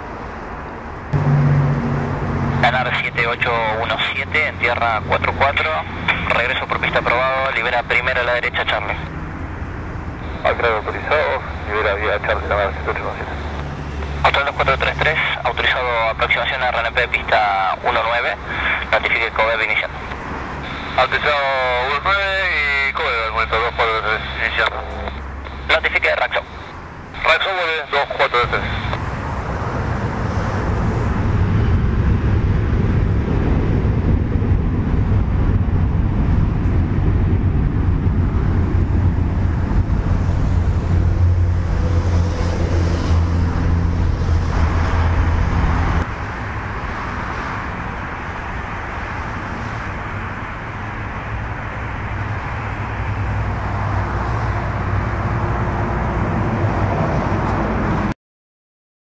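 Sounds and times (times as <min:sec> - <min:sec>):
jet engines rumbling: 0:00.0 - 0:58.1.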